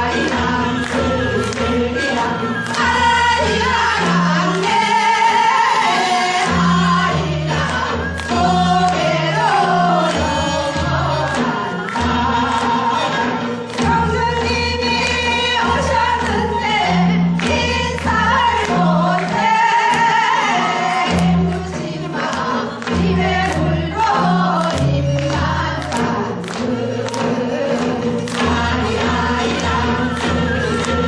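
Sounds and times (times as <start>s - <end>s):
voices singing together: 0.0s - 31.0s.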